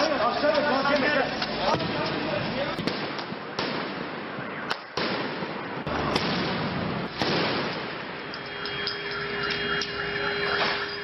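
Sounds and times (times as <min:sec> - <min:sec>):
fireworks cracks and bangs: 0:00.0 - 0:11.0.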